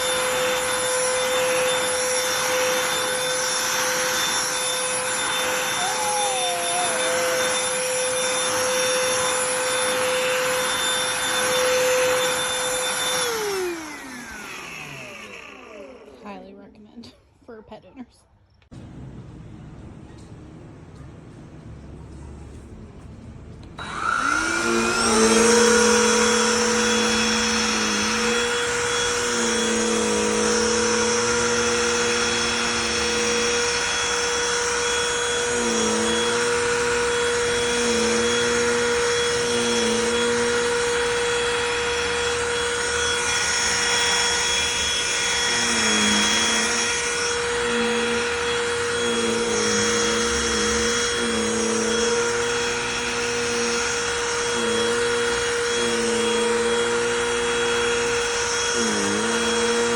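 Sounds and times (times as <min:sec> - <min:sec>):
handheld vacuum motor whine: 0:00.0 - 0:16.8, 0:23.7 - 0:59.9.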